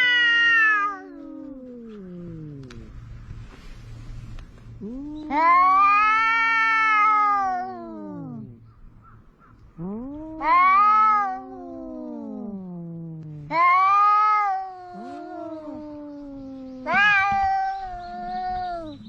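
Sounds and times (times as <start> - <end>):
cats yowling: 0.0 - 3.0, 4.8 - 19.0.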